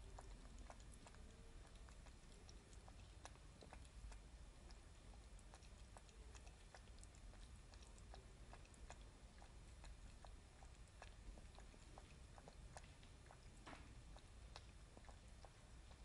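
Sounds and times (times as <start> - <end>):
kitten feeding clicks: 0.0 - 16.0.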